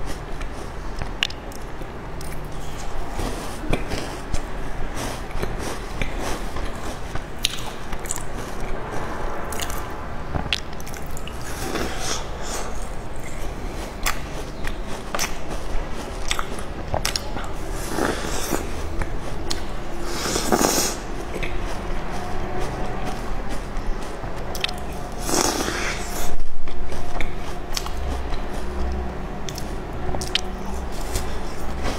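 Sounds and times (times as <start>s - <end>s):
crunchy cookie chewing: 0.0s - 31.9s.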